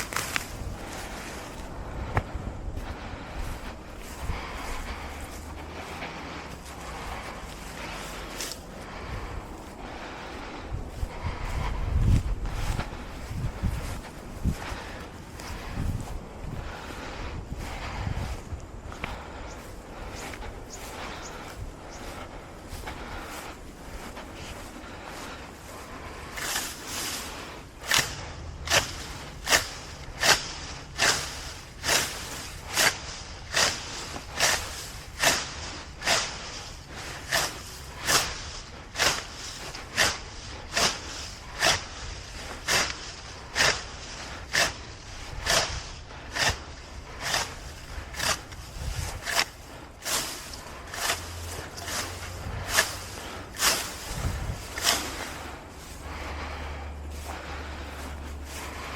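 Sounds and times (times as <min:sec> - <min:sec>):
grass being torn up by hand: 0:00.0 - 0:09.7, 0:17.6 - 0:58.9.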